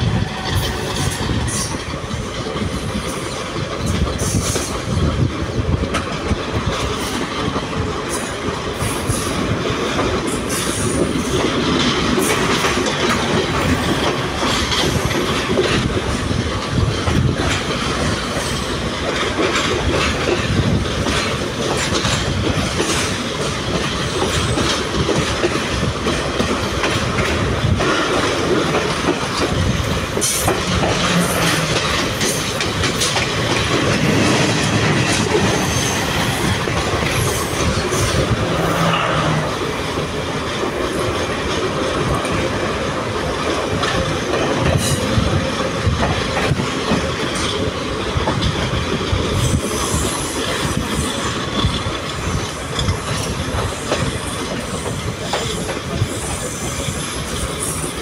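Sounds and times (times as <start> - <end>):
train wheels rumbling on rails: 0.0 - 58.0
wheels clacking over rail joints: 0.0 - 58.0.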